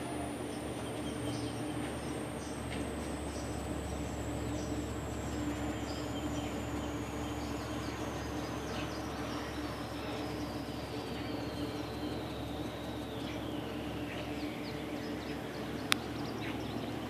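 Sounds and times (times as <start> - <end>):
birds chirping: 0.0 - 17.0
high whine falling in pitch: 0.0 - 17.0
steady background hum: 0.0 - 17.0.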